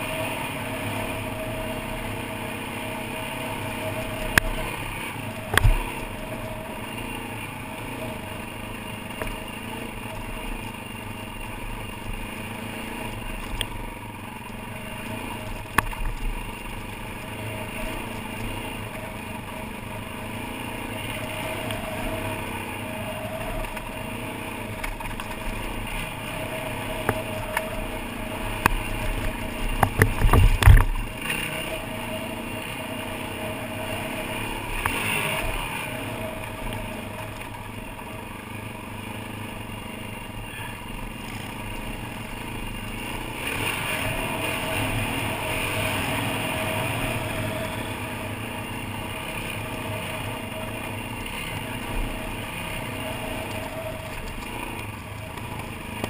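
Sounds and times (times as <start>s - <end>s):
dirt bike engine at low revs: 0.0s - 56.0s.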